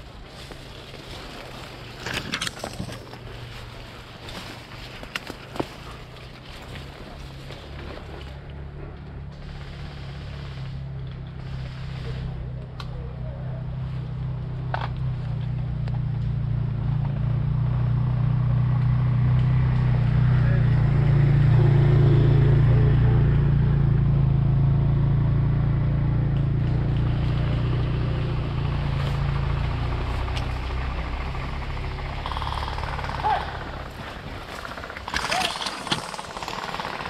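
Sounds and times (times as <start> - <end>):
engine drone passing by: 5.8 - 37.0.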